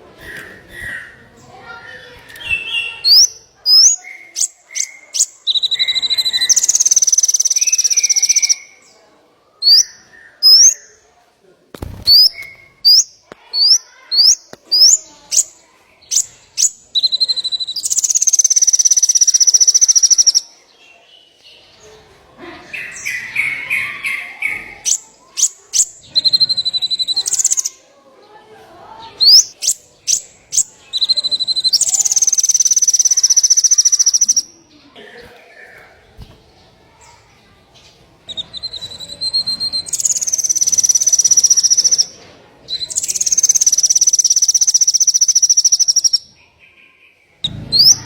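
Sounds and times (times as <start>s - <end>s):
songbird singing: 0.0s - 11.1s, 12.0s - 22.0s, 22.7s - 48.0s.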